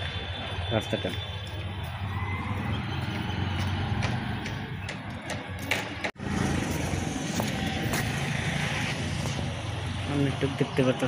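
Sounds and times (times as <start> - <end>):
traffic engine hum: 0.0 - 11.0.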